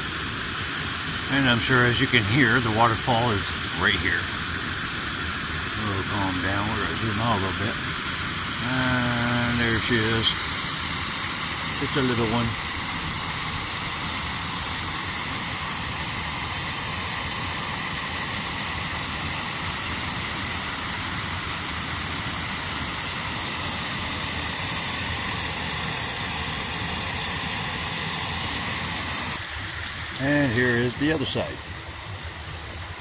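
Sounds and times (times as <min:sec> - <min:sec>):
small waterfall pouring: 0:00.0 - 0:33.0.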